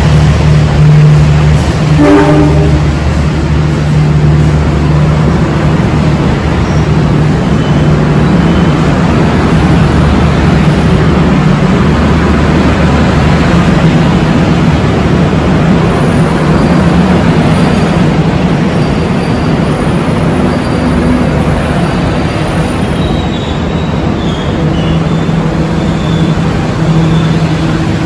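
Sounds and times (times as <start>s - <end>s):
passenger train rumbling: 0.0s - 28.0s.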